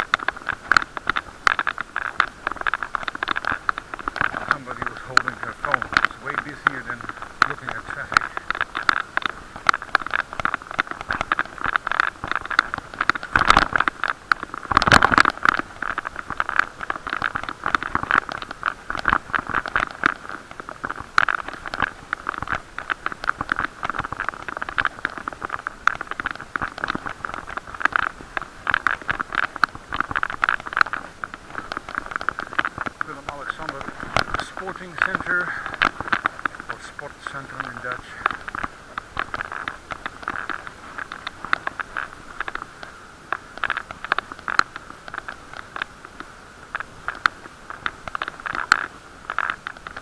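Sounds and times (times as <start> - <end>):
heavy bicycle jolts: 0.0 - 11.4, 12.1 - 43.0
bicycle rattling and scraping: 0.0 - 50.0.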